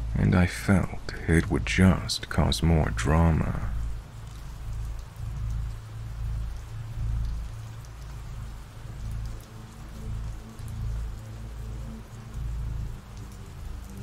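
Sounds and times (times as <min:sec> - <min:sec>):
steady rain patter: 0:00.0 - 0:14.0
pulsing low rumble: 0:00.9 - 0:14.0.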